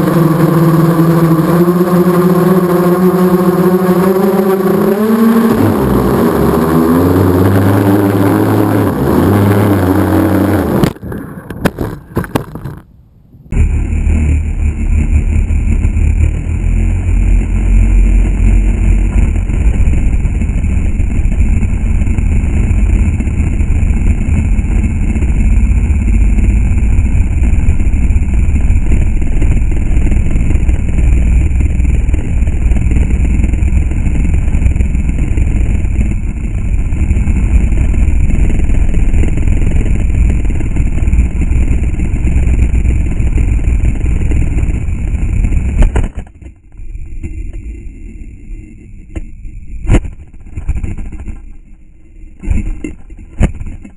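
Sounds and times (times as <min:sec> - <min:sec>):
drone propellers whirring: 0:00.0 - 0:12.8, 0:13.5 - 0:53.9
wind rumbling on microphone: 0:00.0 - 0:53.9.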